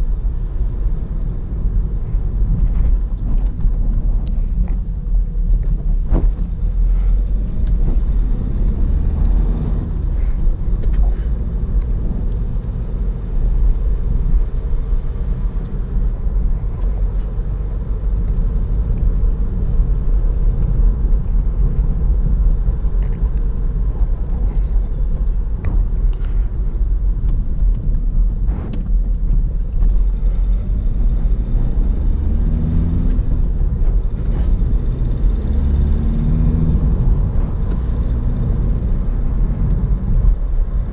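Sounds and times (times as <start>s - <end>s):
car engine rumble: 0.0s - 40.9s
road noise: 0.0s - 40.9s.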